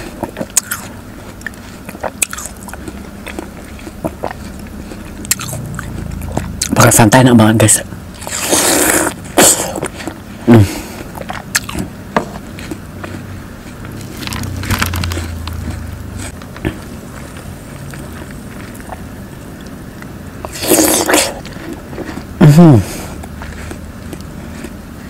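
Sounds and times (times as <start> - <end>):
biting and chewing watermelon: 0.0 - 7.4, 8.1 - 25.0.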